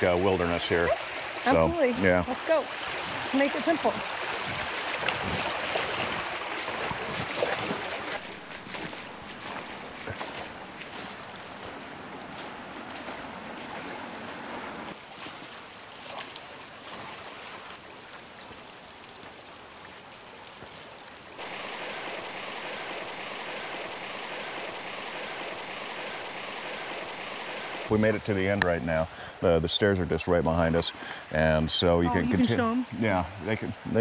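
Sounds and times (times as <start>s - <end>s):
splashes of people wading: 0.0s - 29.3s
creek water running over stones: 0.0s - 34.0s.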